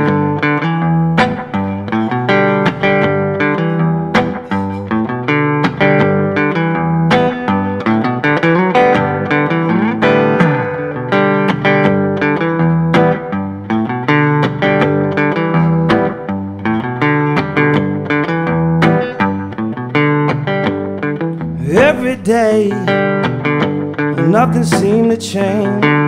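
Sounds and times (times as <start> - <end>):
bass guitar: 0.0 - 26.0
plucked guitar notes and chords: 0.0 - 26.0.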